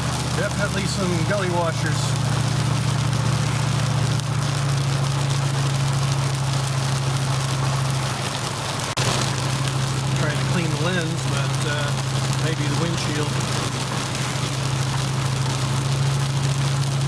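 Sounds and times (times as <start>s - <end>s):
heavy rain on truck roof: 0.0s - 17.0s
truck engine humming: 0.0s - 17.0s.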